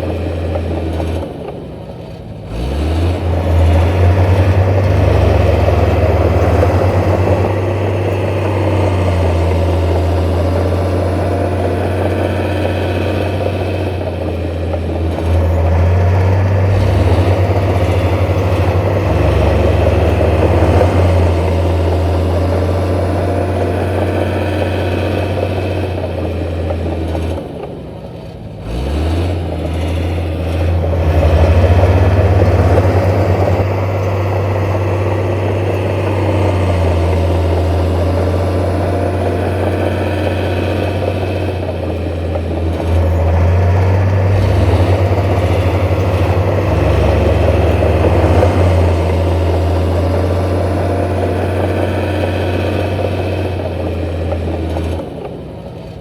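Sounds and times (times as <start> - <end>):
heavy diesel engine revving: 0.0 - 1.6, 2.3 - 56.0.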